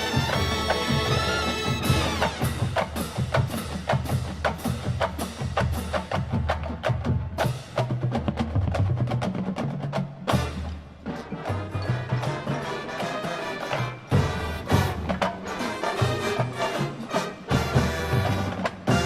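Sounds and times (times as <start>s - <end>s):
rapid percussion strokes: 0.0s - 19.0s.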